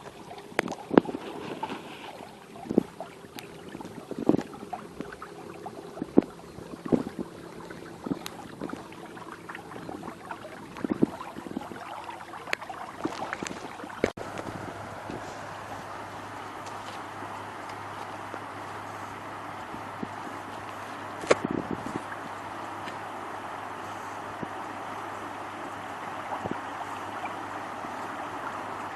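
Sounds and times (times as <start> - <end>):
boat knocking and splashing: 0.0 - 28.9
wind: 0.0 - 28.9.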